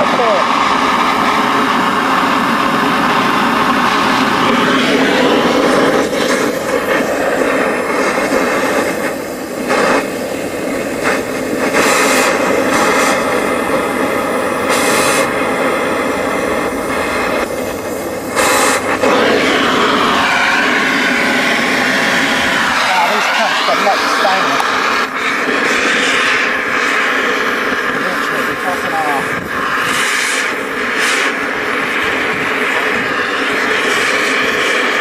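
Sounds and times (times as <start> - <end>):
cutting torch roaring hiss: 0.0 - 35.0.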